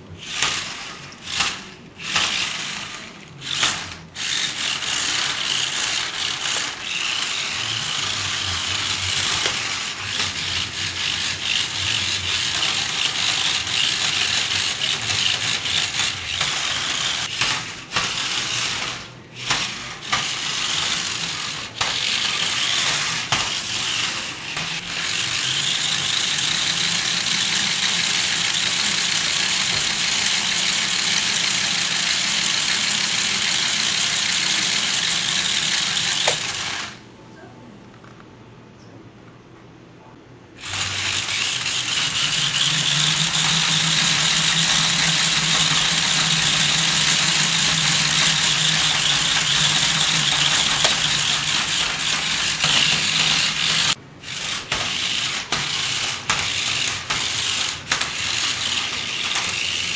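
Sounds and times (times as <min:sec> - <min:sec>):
toy car motors whirring: 0:00.0 - 0:37.0, 0:40.6 - 0:59.9.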